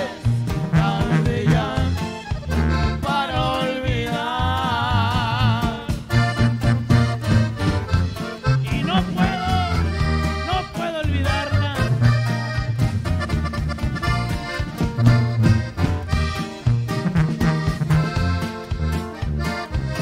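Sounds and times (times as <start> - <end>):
accordion melody: 0.0 - 20.0
steady drum beat: 0.0 - 20.0
strummed twelve-string guitar: 0.0 - 20.0
tuba bass notes: 0.0 - 20.0.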